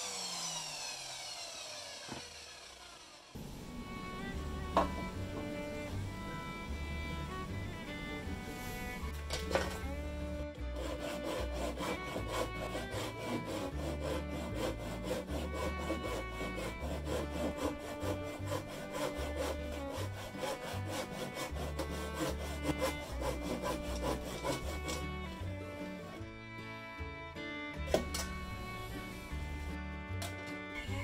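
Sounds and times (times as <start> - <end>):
hand saw cutting wood: 0.0 - 26.2, 27.8 - 31.0
background music: 3.6 - 31.0.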